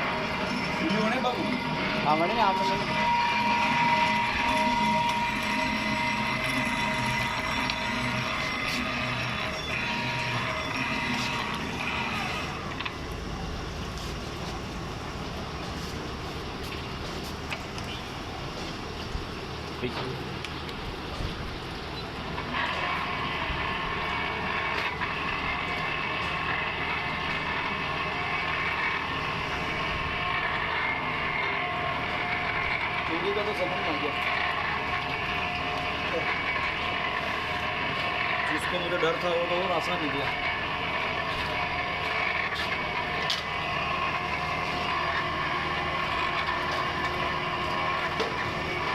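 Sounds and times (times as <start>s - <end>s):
machining machine whining: 0.0s - 48.9s.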